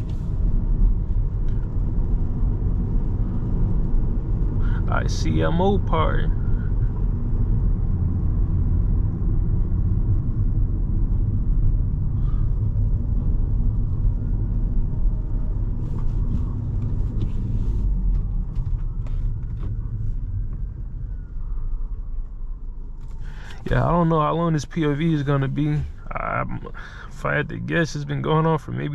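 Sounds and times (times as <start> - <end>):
engine and road rumble in car: 0.0 - 28.9.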